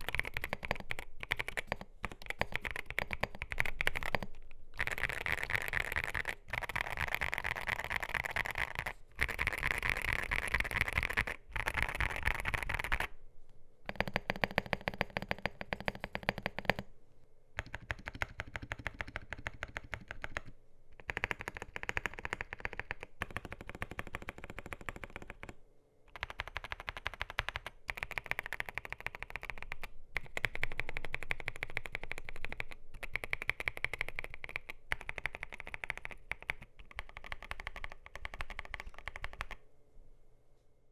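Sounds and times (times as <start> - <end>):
mechanical keyboard typing: 0.0 - 13.1, 13.9 - 16.9, 17.6 - 39.6.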